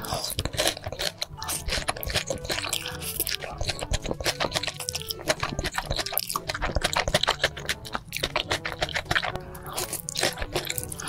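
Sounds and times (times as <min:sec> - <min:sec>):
background music: 0:00.0 - 0:11.0
wet chewing and mouth clicks: 0:00.0 - 0:11.0.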